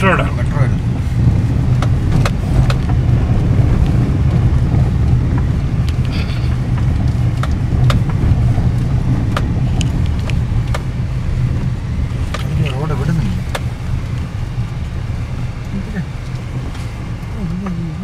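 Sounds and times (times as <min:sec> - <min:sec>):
car road rumble: 0:00.0 - 0:18.0.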